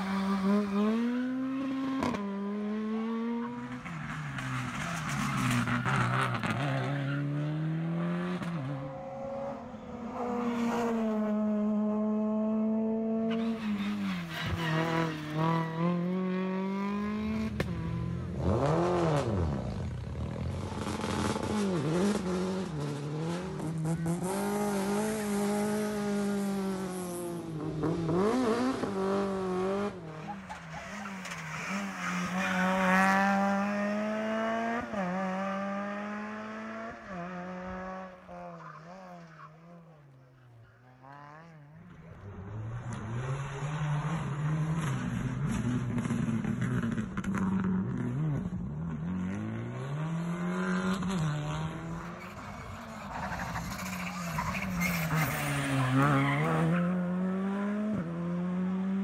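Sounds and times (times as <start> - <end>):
cars passing: 0.0 - 59.0
rally car engines revving: 0.0 - 59.0.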